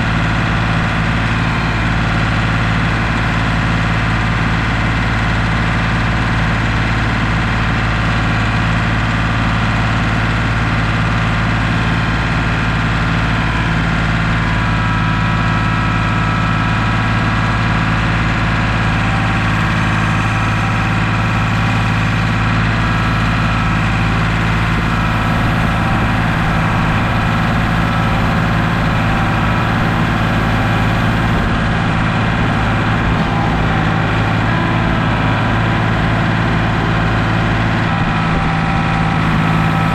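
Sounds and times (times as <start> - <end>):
heavy machine engine idling: 0.0 - 39.9.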